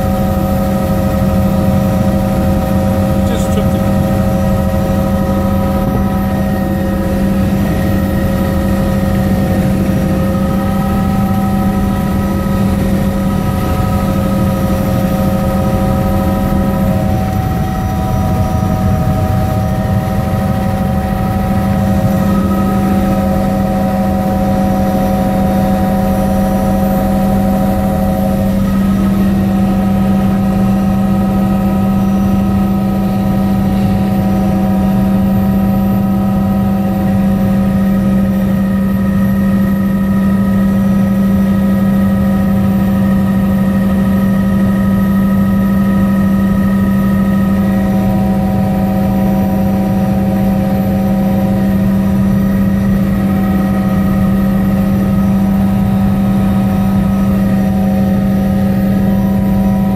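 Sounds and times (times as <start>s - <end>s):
helicopter cabin drone: 0.0s - 59.9s.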